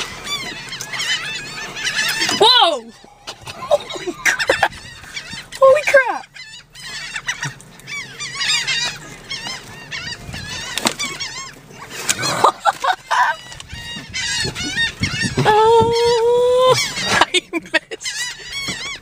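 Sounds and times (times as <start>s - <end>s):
gulls squawking: 0.0s - 19.0s.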